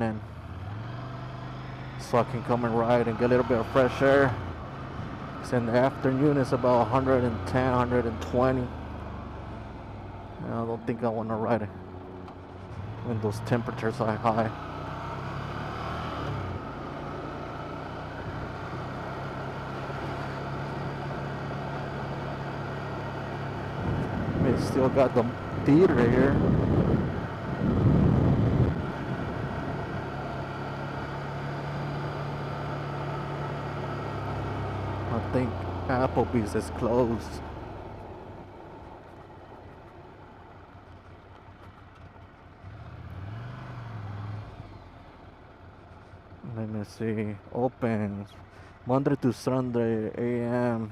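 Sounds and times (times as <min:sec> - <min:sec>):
motorcycle engine running: 0:00.0 - 0:49.5.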